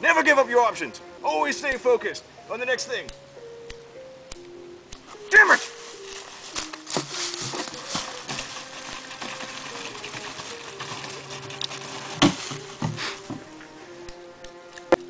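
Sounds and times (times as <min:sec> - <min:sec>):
background music of held notes: 0:00.0 - 0:15.0.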